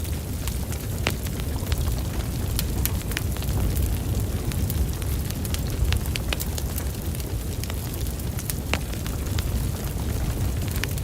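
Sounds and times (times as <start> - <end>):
fire popping and snapping: 0.0 - 11.0
fire rumbling: 0.0 - 11.0.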